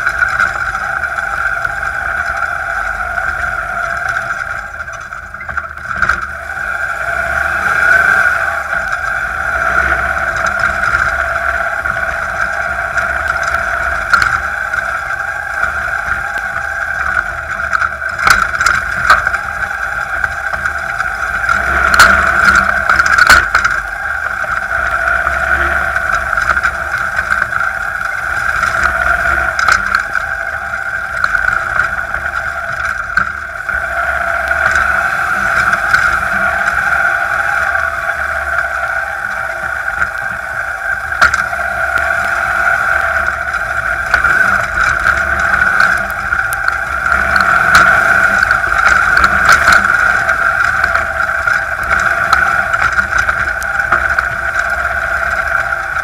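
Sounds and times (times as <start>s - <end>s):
air-cooled engine running: 0.0s - 56.0s.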